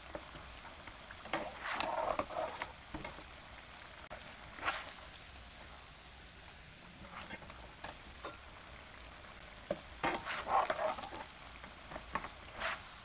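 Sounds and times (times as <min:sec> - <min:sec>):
pancake sizzling in oil: 0:00.0 - 0:13.0.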